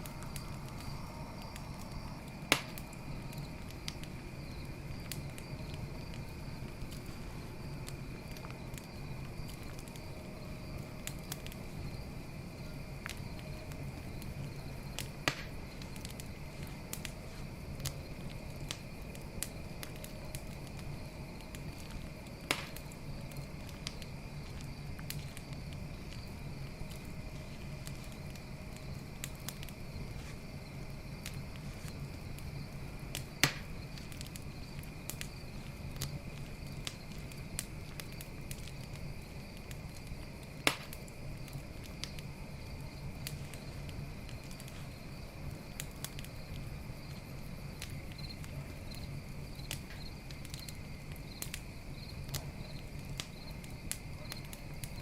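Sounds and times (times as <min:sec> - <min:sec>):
campfire crackling and popping: 0:00.0 - 0:55.0
crickets trilling: 0:00.0 - 0:55.0.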